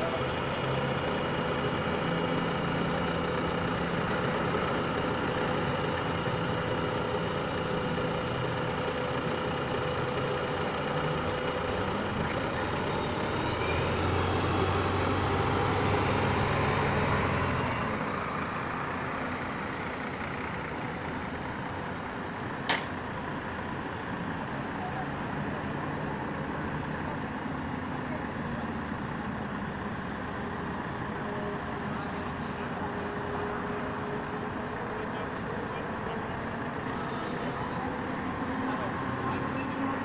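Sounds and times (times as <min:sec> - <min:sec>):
bus diesel engines idling: 0:00.0 - 0:40.0
bus pulling away: 0:00.0 - 0:40.0.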